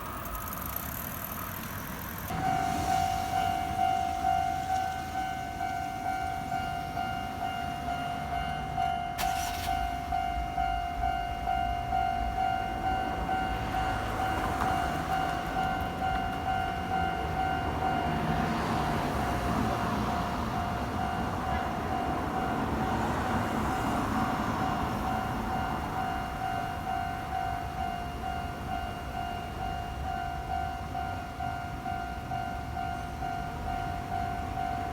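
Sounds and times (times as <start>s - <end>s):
train passing: 0.0s - 34.9s.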